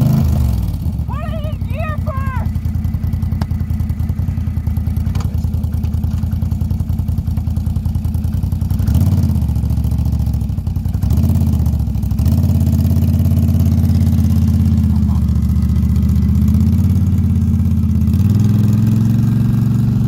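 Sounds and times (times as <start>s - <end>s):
atv engine idling and revving: 0.0s - 20.0s.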